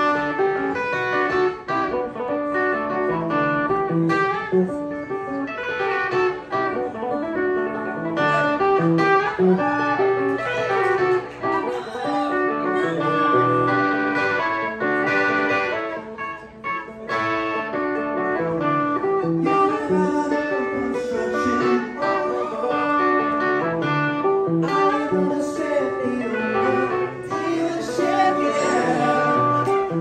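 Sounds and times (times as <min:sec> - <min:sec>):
electric guitar playing: 0:00.0 - 0:30.0.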